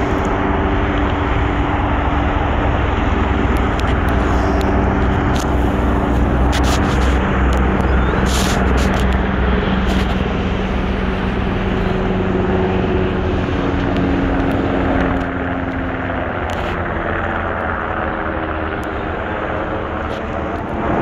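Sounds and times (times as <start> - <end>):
aircraft flying overhead: 0.0 - 21.0.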